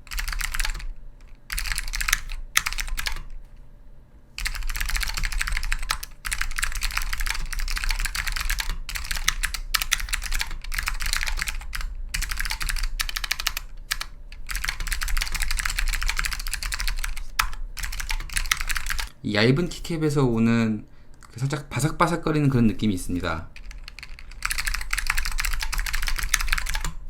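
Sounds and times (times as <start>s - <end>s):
fast keyboard typing clicks: 0.0s - 3.3s, 4.4s - 19.1s, 23.1s - 27.0s.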